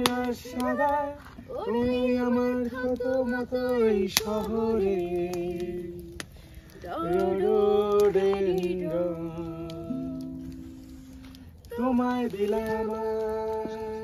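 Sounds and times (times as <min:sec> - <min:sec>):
woman singing: 0:00.0 - 0:06.2, 0:06.8 - 0:10.4, 0:11.7 - 0:14.0
acoustic guitar: 0:00.0 - 0:14.0.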